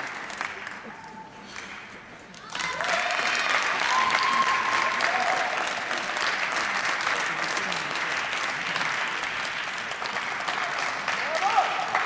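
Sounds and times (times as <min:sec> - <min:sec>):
audience applauding: 0:00.0 - 0:01.8, 0:02.4 - 0:12.0.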